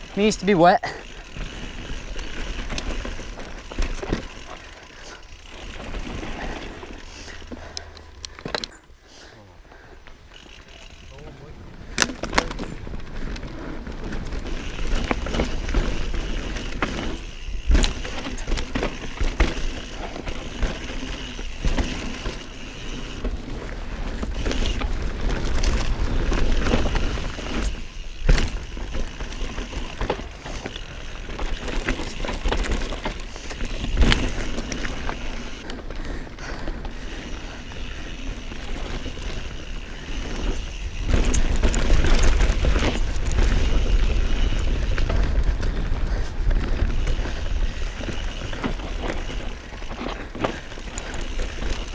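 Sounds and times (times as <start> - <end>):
bike rattling over bumps: 0.0 - 8.9, 10.0 - 51.9
bike tyres on loose dirt: 0.0 - 51.9.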